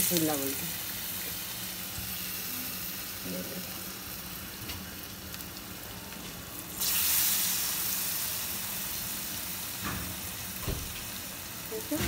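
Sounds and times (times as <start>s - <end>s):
battered food sizzling in oil: 0.0s - 12.0s.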